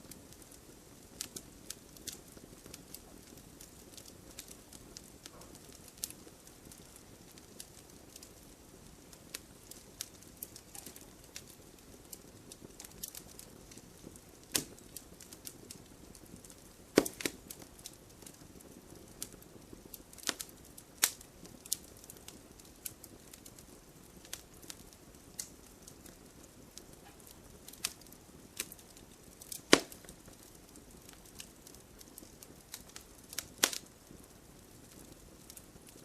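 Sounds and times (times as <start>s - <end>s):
fire flames rustling: 0.0s - 36.0s
logs crackling and popping: 0.0s - 36.0s.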